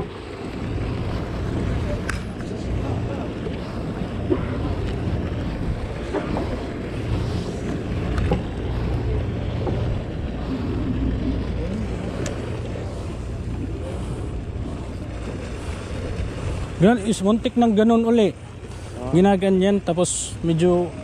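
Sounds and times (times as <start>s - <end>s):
wind buffeting microphone: 0.0s - 19.4s
low steady rumble: 0.0s - 21.0s
water washing against boat: 0.0s - 21.0s.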